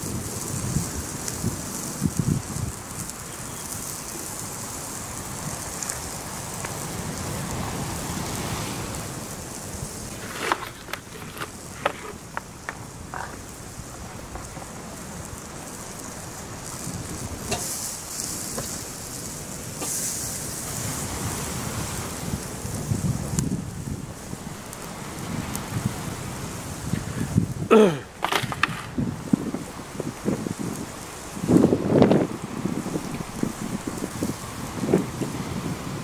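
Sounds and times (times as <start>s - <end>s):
rush of wind or water: 0.0s - 36.0s.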